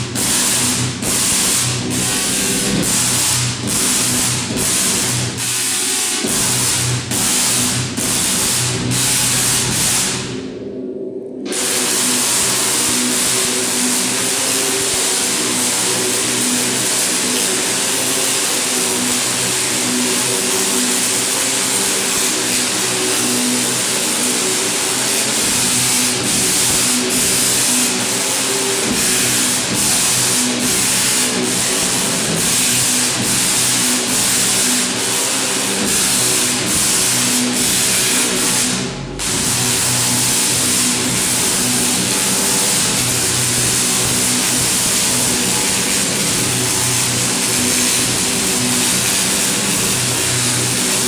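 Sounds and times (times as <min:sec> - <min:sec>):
tesla coil buzzing crackle: 0:00.0 - 0:10.4, 0:11.4 - 0:51.0.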